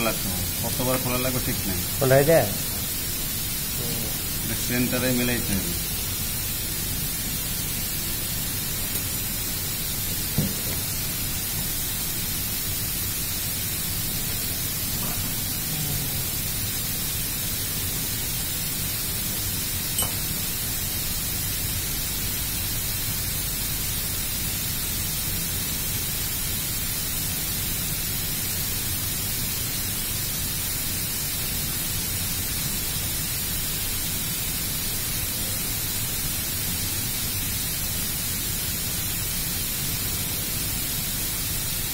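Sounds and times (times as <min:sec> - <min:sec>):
steady hiss: 0:00.0 - 0:41.9.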